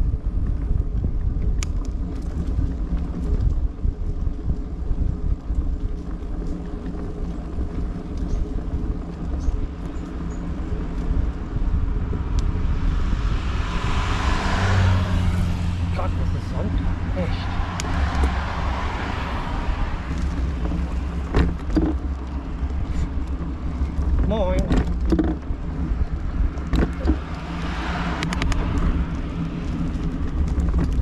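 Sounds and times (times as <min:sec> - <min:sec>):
motor vehicle rumble: 0:00.0 - 0:31.0.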